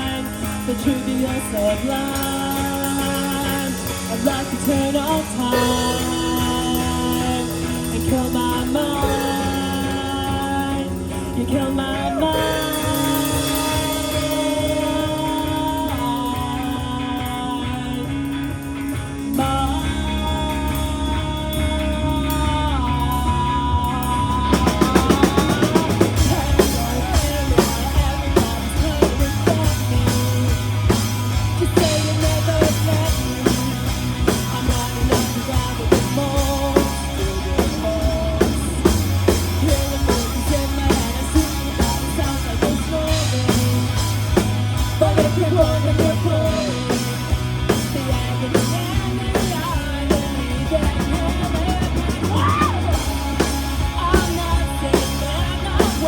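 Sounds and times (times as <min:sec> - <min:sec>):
bass line: 0:00.0 - 0:56.0
drum kit beat: 0:00.0 - 0:56.0
melodic lead line: 0:00.0 - 0:56.0.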